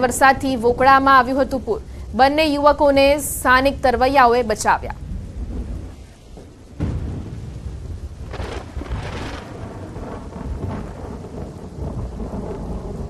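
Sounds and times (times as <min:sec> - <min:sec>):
heavy rain: 0:00.0 - 0:13.0
thunder rumbling: 0:00.0 - 0:13.0.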